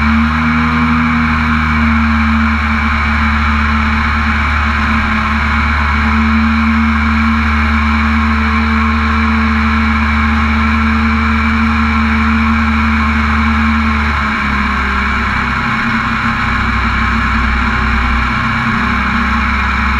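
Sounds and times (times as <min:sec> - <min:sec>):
boat engine drone: 0:00.0 - 0:19.9.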